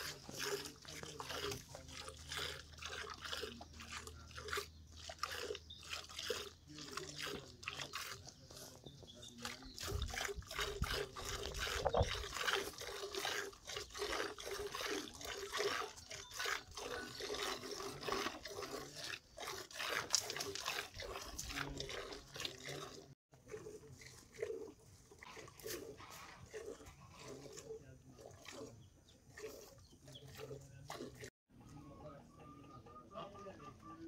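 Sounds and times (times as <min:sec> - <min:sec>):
milk squirting into metal pail: 0:00.0 - 0:31.3.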